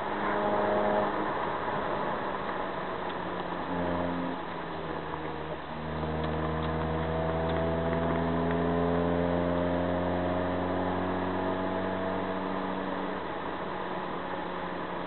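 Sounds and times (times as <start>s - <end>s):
car engine accelerating: 0.0s - 15.0s
tyre and road noise: 0.0s - 15.0s.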